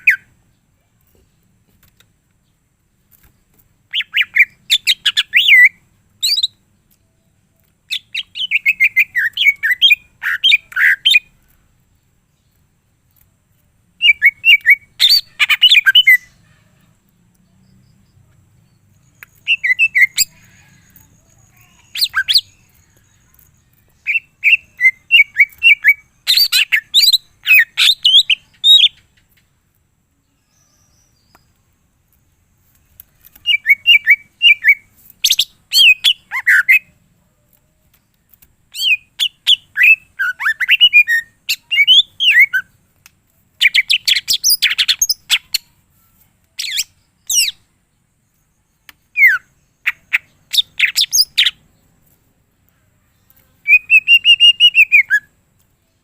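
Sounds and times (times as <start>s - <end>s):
bird chirping and trilling: 0.0s - 0.7s, 2.4s - 13.3s, 14.0s - 29.4s, 32.9s - 37.0s, 37.9s - 42.8s, 43.6s - 51.9s, 53.1s - 56.0s.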